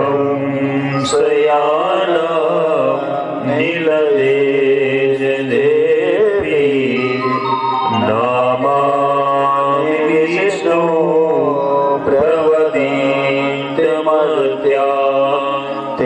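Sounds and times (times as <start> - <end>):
man chanting: 0.0 - 16.0
sustained instrumental accompaniment: 0.0 - 16.0.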